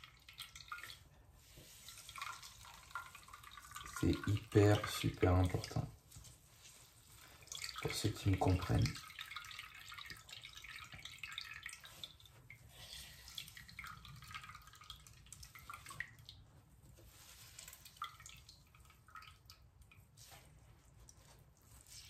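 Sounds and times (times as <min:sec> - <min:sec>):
milk dripping and squelching: 0:00.0 - 0:22.0.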